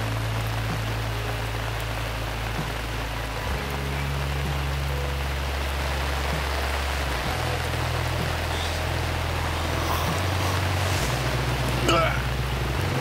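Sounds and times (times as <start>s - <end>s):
rain falling on water: 0.0s - 13.0s.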